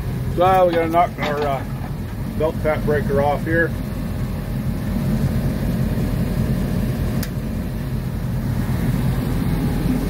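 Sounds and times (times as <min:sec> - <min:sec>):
locomotive engine idling: 0:00.0 - 0:10.0.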